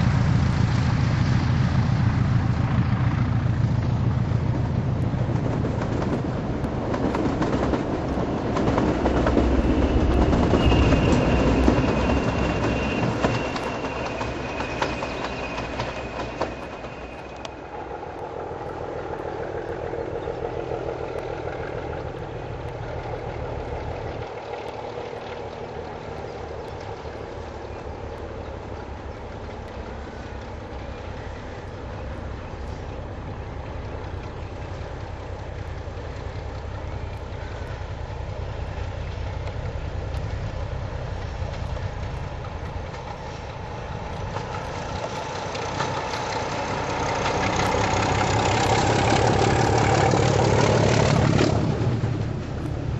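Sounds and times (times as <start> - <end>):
diesel locomotive engine running: 0.0 - 52.9
train noise: 0.0 - 52.9.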